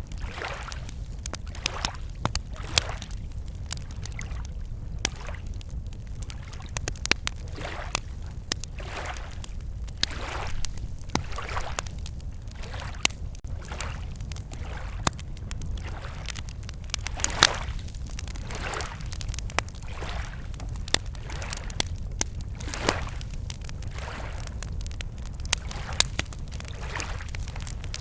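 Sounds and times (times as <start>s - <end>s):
campfire crackling and popping: 0.0s - 28.0s
lake waves lapping at shore: 0.1s - 5.5s, 7.4s - 21.9s, 22.6s - 24.5s, 25.5s - 28.0s.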